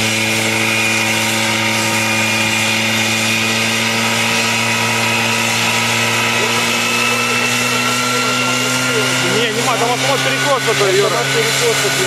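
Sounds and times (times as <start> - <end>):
helicopter engine droning: 0.0 - 12.0.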